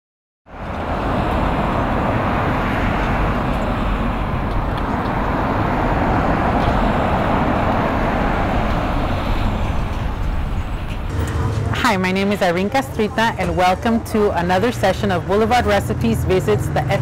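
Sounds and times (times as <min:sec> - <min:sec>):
street traffic rumble: 0:00.4 - 0:17.0.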